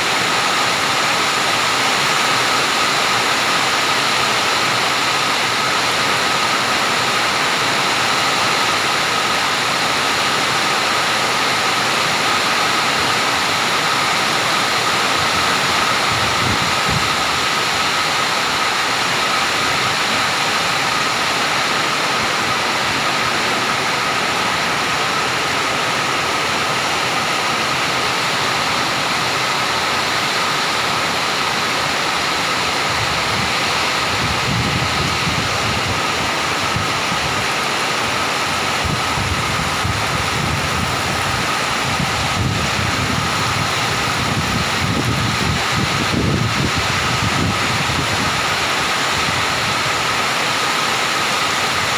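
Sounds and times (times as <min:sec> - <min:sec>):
storm rain: 0:00.0 - 0:51.9
wind: 0:00.0 - 0:51.9.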